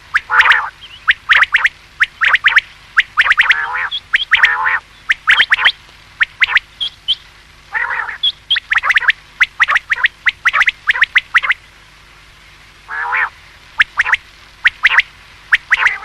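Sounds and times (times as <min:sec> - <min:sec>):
quail whistled calls: 0:00.0 - 0:11.6, 0:12.9 - 0:16.0.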